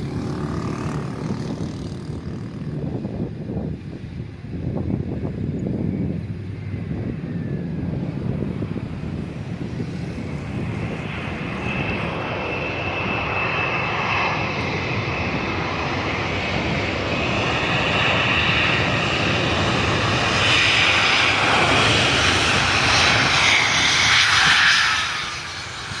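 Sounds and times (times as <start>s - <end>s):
airliner engines whining: 0.0s - 26.0s.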